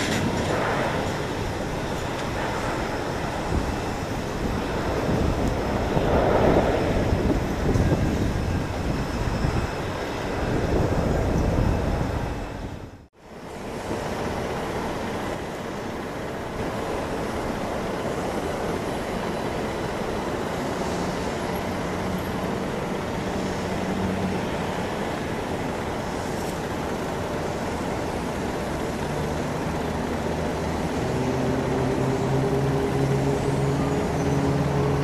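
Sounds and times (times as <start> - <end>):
jet airliner engines roaring: 0.0 - 35.0.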